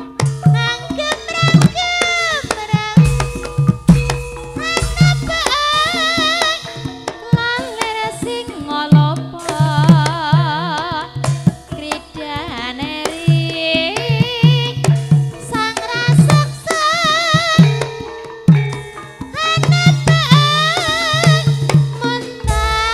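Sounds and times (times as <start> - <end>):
hand drum strokes: 0.0 - 22.9
ringing bronze metallophone: 0.0 - 22.9
high voice singing with vibrato: 0.5 - 3.4, 4.6 - 17.9, 19.3 - 22.9.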